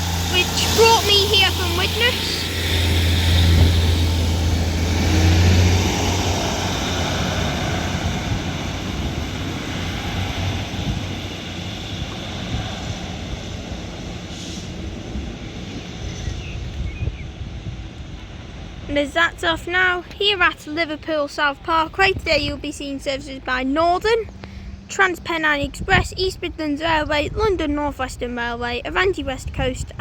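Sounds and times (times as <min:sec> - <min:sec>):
diesel engine drone: 0:00.0 - 0:30.0
train running noise: 0:00.0 - 0:30.0.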